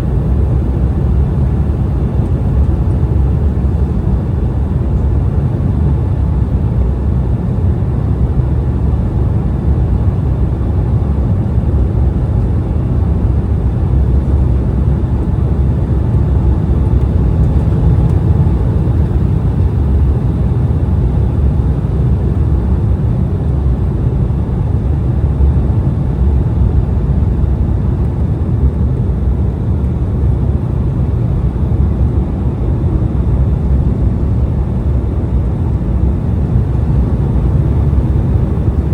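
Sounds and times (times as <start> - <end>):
airliner cabin jet engine rumble: 0.0 - 38.9.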